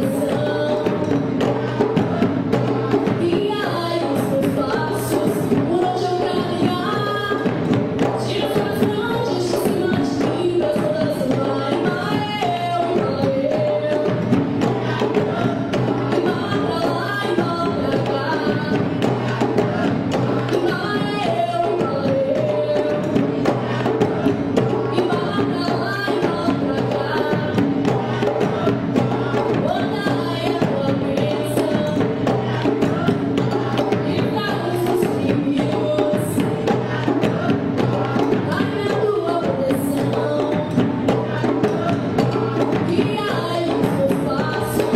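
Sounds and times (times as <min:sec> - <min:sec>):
music with percussion and melody: 0:00.0 - 0:44.9.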